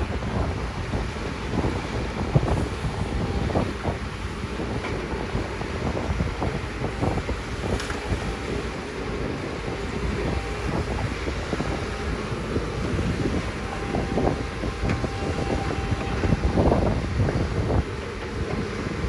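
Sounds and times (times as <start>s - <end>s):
excavator diesel engine running: 0.0s - 19.0s
water splashing and churning: 0.0s - 19.0s
wind buffeting microphone: 0.0s - 19.0s.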